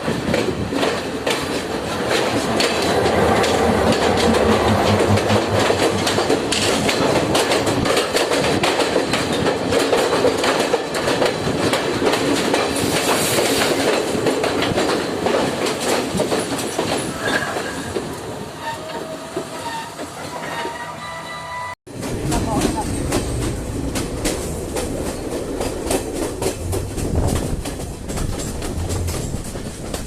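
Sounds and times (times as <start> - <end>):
train wheels clattering on rails: 0.0 - 21.0, 21.9 - 30.0.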